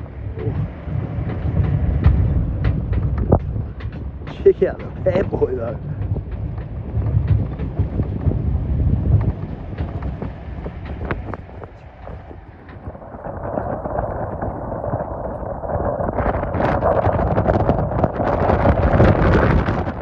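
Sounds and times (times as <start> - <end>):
low vehicle rumble: 0.0 - 20.0
wind buffeting microphone: 0.0 - 20.0.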